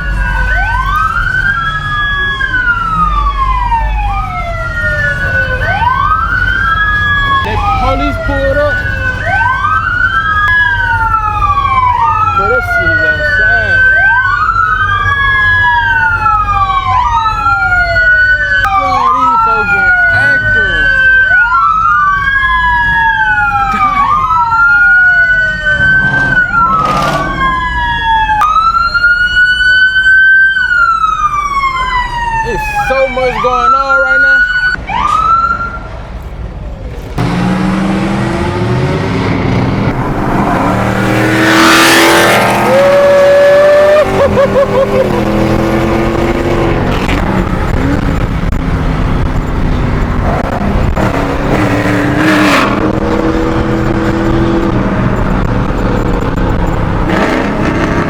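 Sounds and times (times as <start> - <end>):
police sirens wailing: 0.0 - 58.0.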